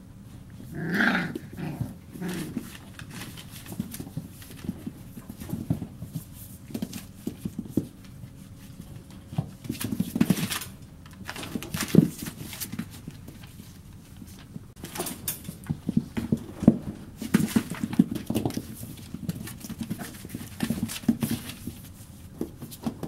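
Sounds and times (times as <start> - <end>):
puppy paws scuffling: 0.3 - 23.0.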